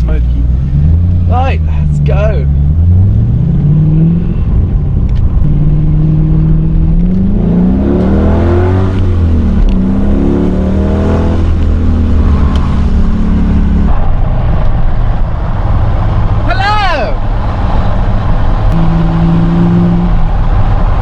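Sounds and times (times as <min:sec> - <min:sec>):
car engine accelerating: 0:00.0 - 0:16.5, 0:17.2 - 0:21.0.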